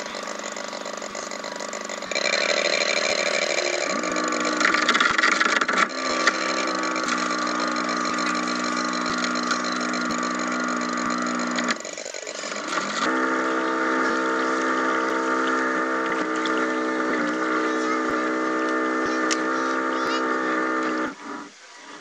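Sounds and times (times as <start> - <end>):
model boat engine hum: 0.0 - 22.0.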